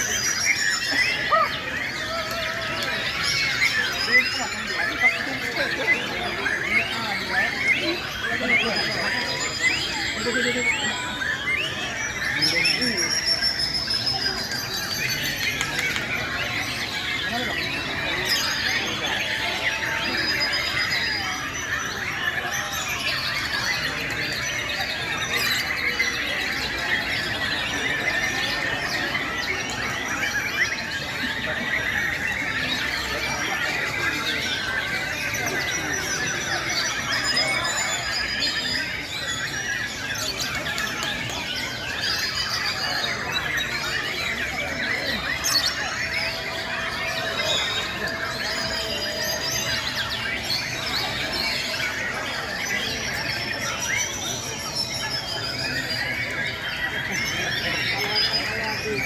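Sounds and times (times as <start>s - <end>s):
birds singing whistles: 0.0s - 59.0s.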